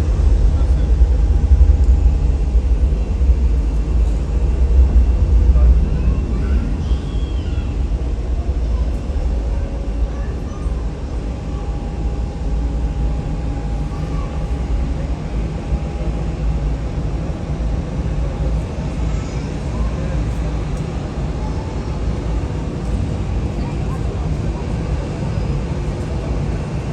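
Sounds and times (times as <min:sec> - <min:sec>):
jet engines rumbling: 0:00.0 - 0:26.9.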